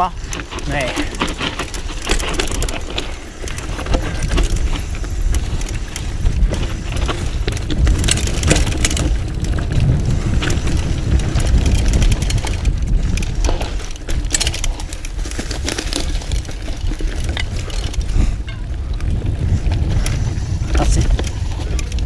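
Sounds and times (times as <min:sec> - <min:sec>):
bike clicks and rattles: 0:00.0 - 0:22.0
bike tyres rumbling on dirt: 0:00.0 - 0:22.0.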